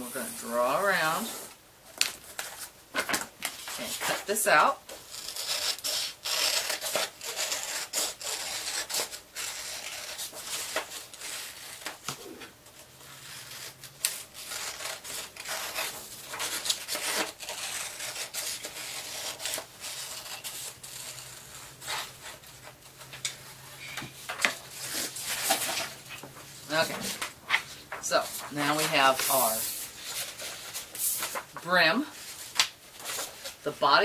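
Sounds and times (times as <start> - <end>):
paper rustling: 6.3 - 33.8.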